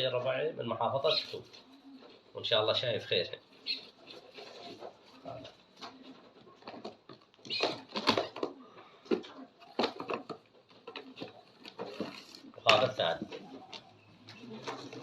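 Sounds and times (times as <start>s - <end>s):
pigeons cooing: 0.9s - 15.0s.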